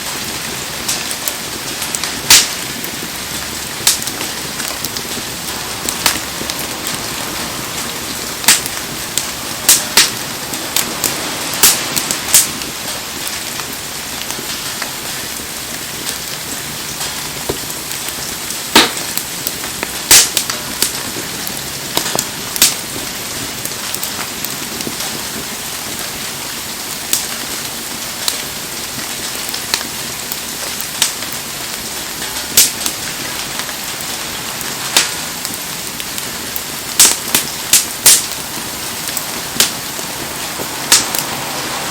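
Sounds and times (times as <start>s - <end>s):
burning wood popping and crackling: 0.0s - 41.9s
heavy rain hissing: 0.0s - 41.9s.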